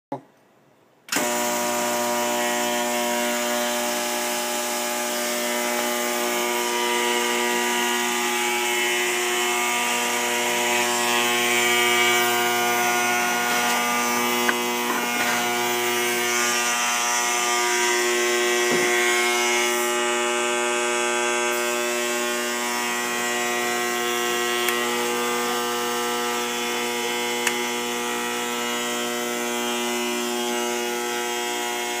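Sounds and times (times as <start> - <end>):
autoclave electrical buzz: 1.1 - 32.0.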